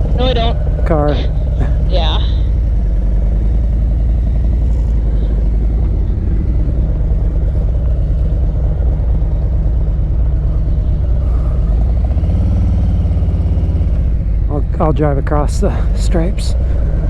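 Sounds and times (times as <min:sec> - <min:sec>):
motorcycle engine pulsing exhaust: 0:00.0 - 0:17.0.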